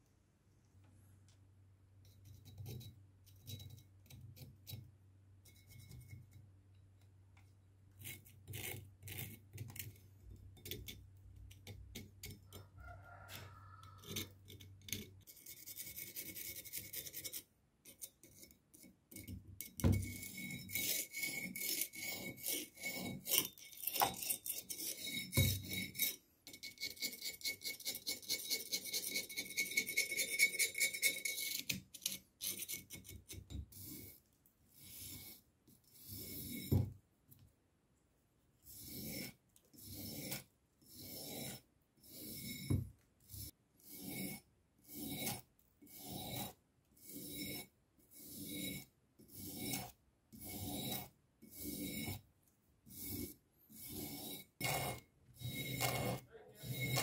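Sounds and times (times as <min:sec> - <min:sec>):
screwdriver scraping rust on metal: 0:02.0 - 0:06.4, 0:07.9 - 0:37.0, 0:38.6 - 0:52.2, 0:52.9 - 0:57.0.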